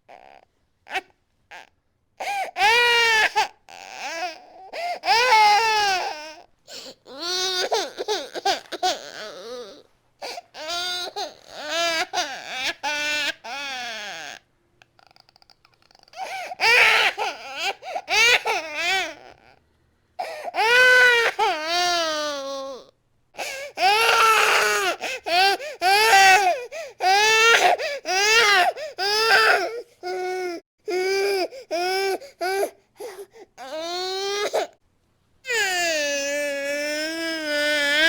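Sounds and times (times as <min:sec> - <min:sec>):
infant crying: 0:00.1 - 0:14.4, 0:16.0 - 0:19.6, 0:20.2 - 0:34.8, 0:35.5 - 0:38.0.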